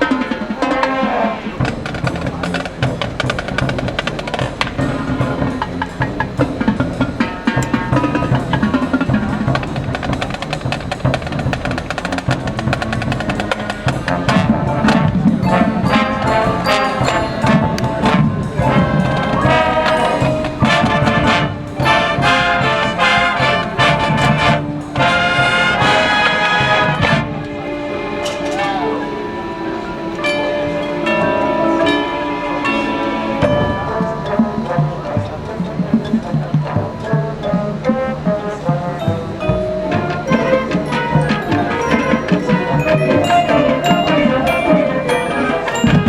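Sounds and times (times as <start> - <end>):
marching band playing: 0.0 - 46.0.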